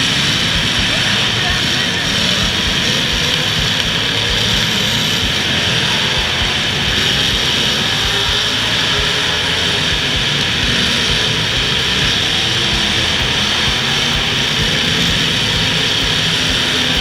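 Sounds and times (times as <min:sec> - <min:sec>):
car engines roaring: 0:00.0 - 0:17.0.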